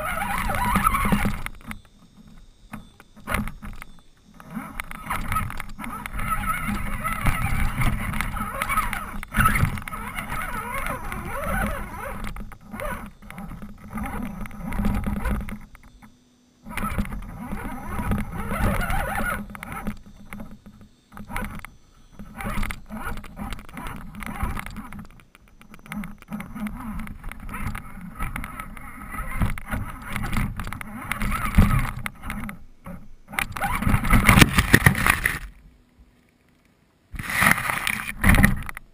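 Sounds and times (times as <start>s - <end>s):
rc truck motor and gears whirring: 0.0s - 35.6s, 37.2s - 38.9s.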